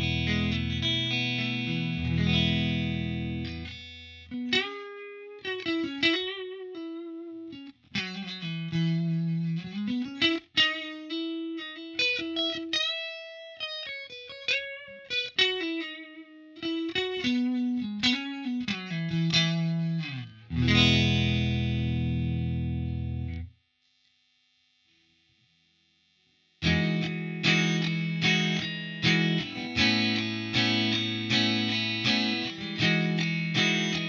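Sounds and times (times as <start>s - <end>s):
clean electric guitar: 0.0s - 23.5s, 26.6s - 34.0s.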